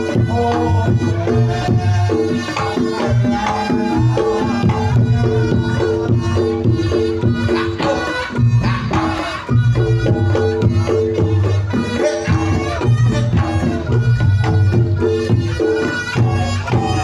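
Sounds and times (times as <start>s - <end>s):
fast busy drumming: 0.0s - 17.0s.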